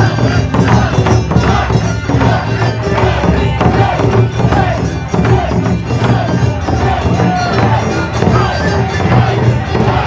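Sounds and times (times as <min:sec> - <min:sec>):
drum ensemble playing: 0:00.0 - 0:10.0.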